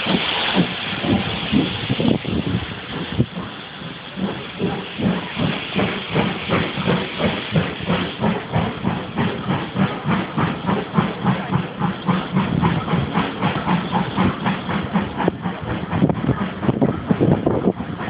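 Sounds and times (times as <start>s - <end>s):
steam hissing: 0.0s - 18.0s
steam locomotive chuffing: 0.0s - 18.0s.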